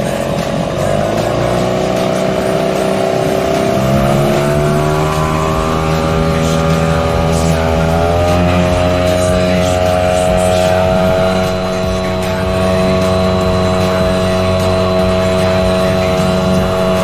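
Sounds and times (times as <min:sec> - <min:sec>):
outboard motor revving: 0:00.0 - 0:17.0.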